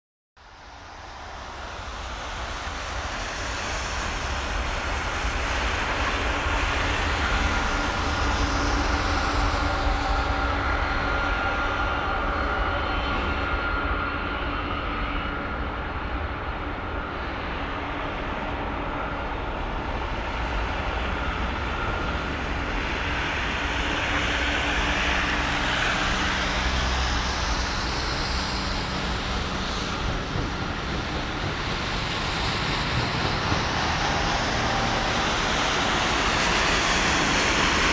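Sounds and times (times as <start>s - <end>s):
distant jet engines roaring: 0.4s - 37.9s.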